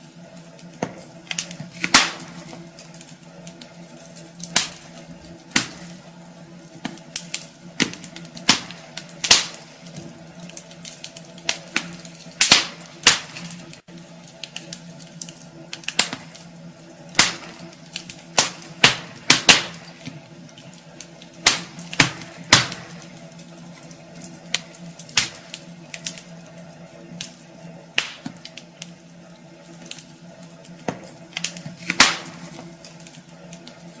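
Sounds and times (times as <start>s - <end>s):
faint steady hum: 0.0s - 34.0s
wood fire crackling and popping: 0.0s - 34.0s.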